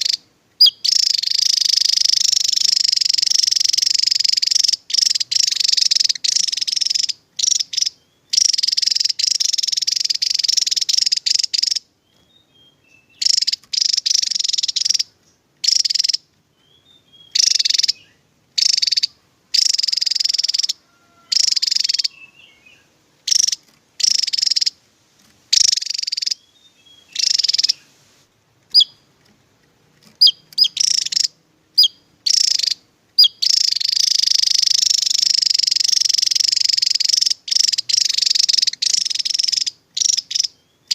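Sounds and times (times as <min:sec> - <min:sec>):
sharp bird chirps: 0:00.0 - 0:24.8, 0:25.5 - 0:28.0, 0:28.7 - 0:29.2, 0:30.0 - 0:40.9
bird singing rapid high song: 0:00.0 - 0:28.0, 0:28.7 - 0:40.9.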